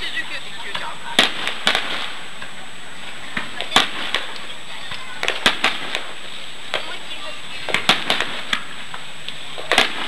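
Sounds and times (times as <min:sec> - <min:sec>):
firework bangs: 0:00.0 - 0:10.0
steady background hiss: 0:00.0 - 0:10.0.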